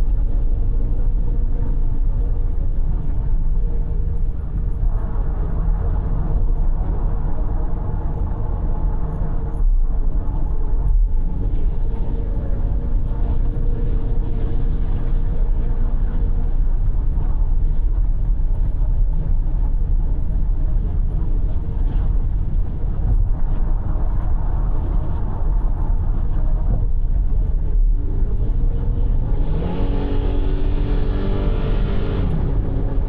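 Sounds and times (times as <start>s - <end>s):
car engine drone: 0.0s - 33.0s
tyre and road noise: 0.0s - 33.0s.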